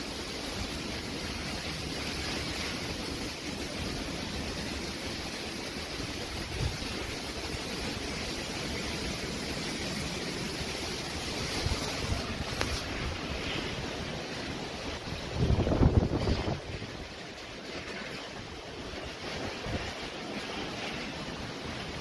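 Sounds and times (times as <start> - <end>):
strong wind blowing: 0.0 - 22.0
surf washing: 0.0 - 22.0
wind gusts buffeting microphone: 0.0 - 22.0.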